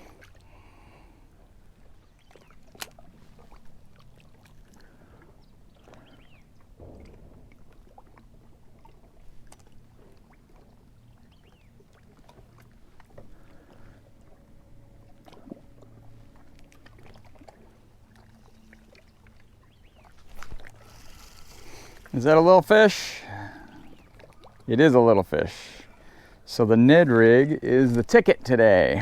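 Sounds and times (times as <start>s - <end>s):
low rumble of water and hull: 0.0s - 29.0s.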